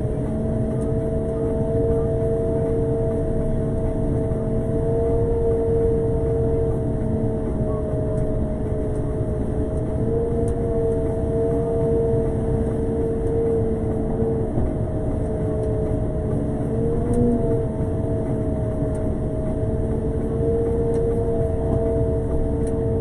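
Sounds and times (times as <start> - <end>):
two-note machinery whine: 0.0 - 23.0.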